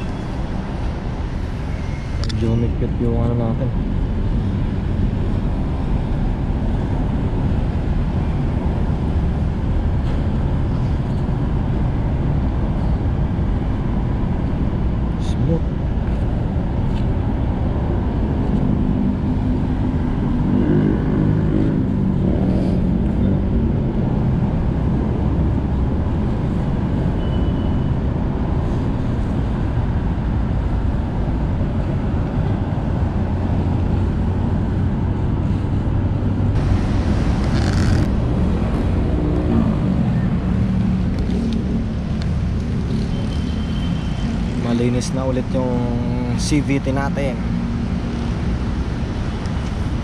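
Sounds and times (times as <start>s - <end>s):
road traffic rumble: 0.0s - 50.0s
passing engine: 3.7s - 50.0s.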